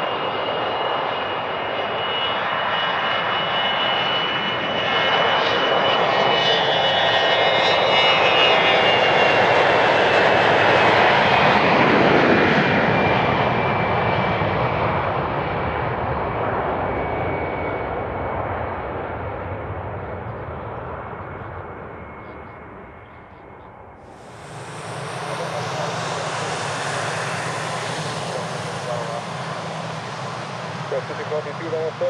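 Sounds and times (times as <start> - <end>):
jet aircraft passing: 0.0 - 32.0.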